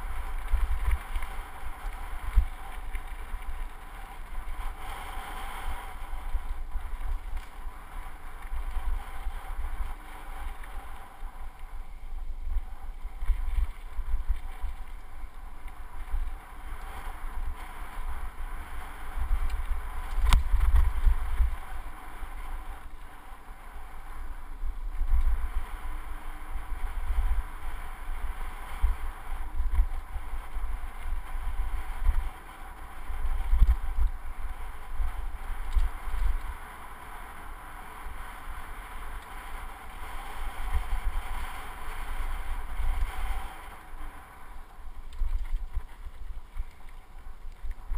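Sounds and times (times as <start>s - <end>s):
bike rolling hiss: 0.0s - 47.9s
wind buffeting microphone: 0.0s - 47.9s.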